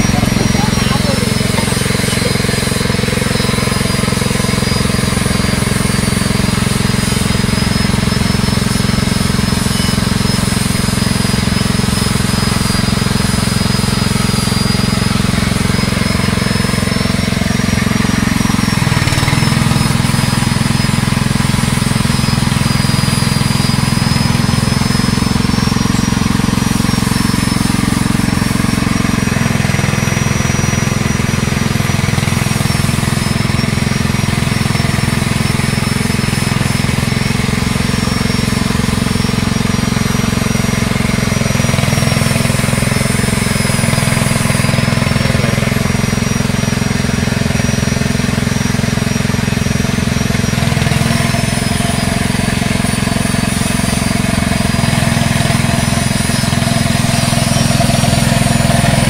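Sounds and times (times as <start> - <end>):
machine motor droning: 0.0 - 59.0
thin high whine: 0.0 - 59.0.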